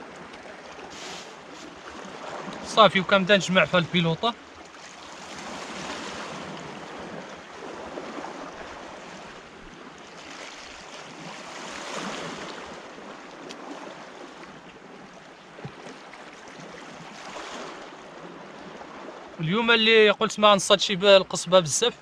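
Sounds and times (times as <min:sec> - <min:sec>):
sea waves washing in: 0:00.0 - 0:15.1, 0:15.9 - 0:22.0.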